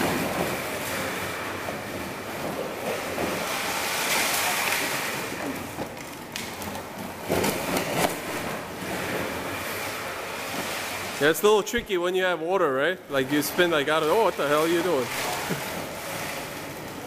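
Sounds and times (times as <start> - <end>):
trike wheels skidding on concrete: 0.0 - 11.8, 13.1 - 17.0.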